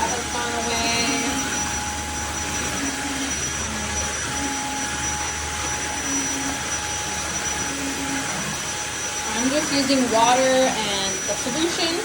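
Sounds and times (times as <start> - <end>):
floor vacuum running: 0.0 - 12.0.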